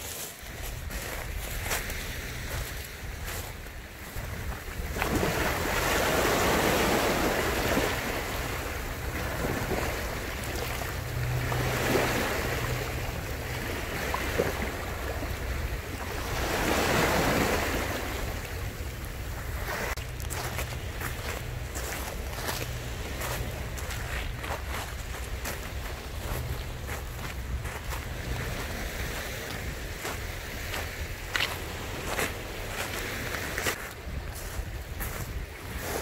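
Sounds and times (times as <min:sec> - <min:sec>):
waves washing over cobble beach: 0:00.0 - 0:36.0.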